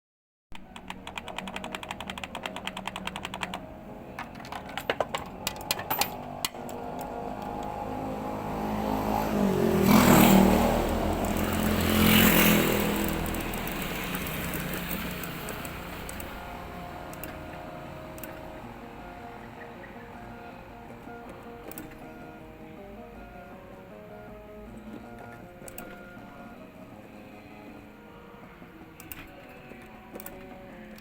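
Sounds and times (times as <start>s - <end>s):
claw machine clicking: 0.6s - 8.5s, 9.6s - 23.6s, 24.2s - 31.0s
claw machine whirring: 0.6s - 23.6s, 24.3s - 31.0s.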